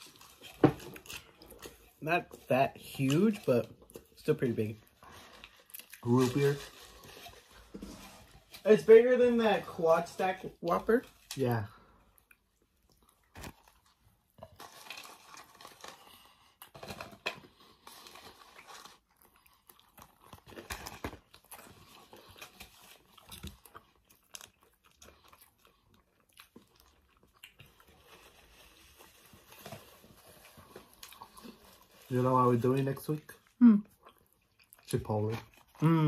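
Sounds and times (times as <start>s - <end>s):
people chewing food: 0.0s - 36.0s.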